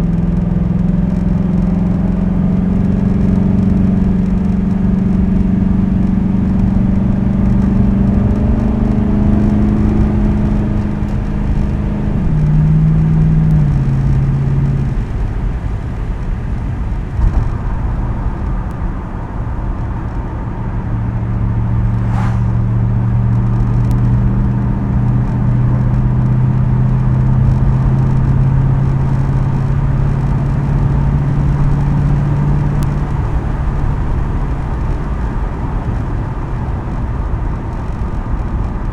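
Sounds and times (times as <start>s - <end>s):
car engine driving: 0.1s - 38.8s.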